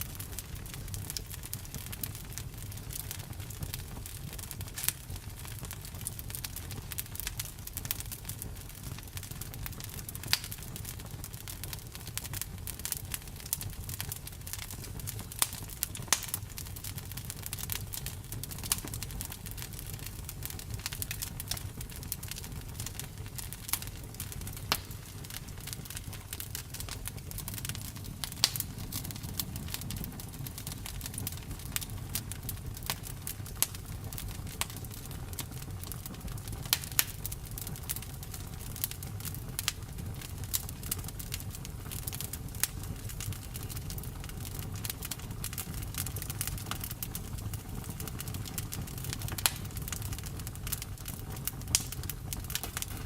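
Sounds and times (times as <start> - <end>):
campfire crackling and popping: 0.0 - 53.0
low fire rumble: 0.0 - 53.0.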